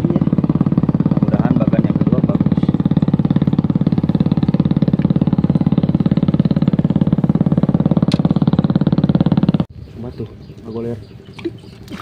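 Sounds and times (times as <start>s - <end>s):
small engine running: 0.0s - 9.7s.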